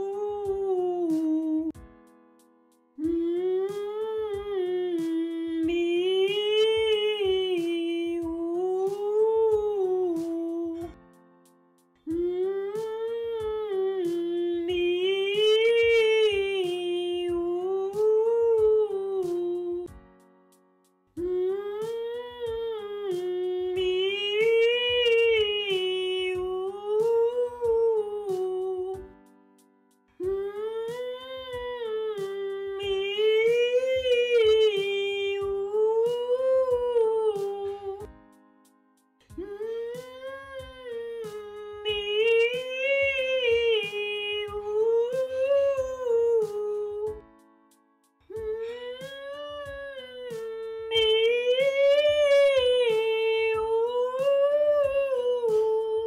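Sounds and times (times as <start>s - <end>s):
woman humming a vocalise: 0.0s - 1.8s, 3.0s - 11.0s, 12.1s - 19.9s, 21.2s - 29.2s, 30.2s - 38.1s, 39.3s - 47.3s, 48.3s - 56.0s
soft instrumental accompaniment: 0.0s - 56.0s.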